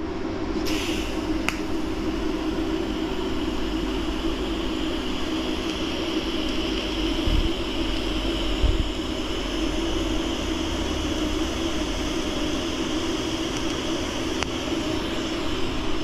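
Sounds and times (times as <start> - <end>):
welder hum: 0.0 - 16.0
welding arc hiss: 0.0 - 16.0.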